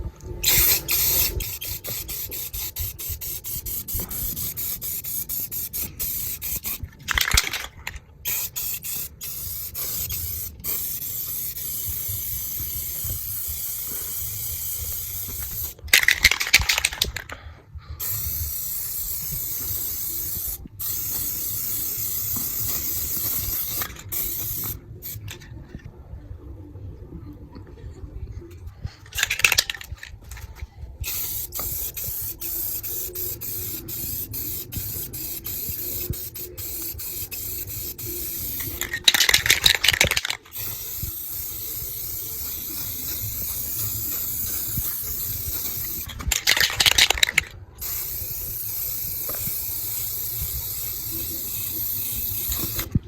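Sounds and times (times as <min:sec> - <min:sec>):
spray-paint can hissing: 0:00.4 - 0:17.3, 0:18.0 - 0:25.3, 0:31.0 - 0:53.0.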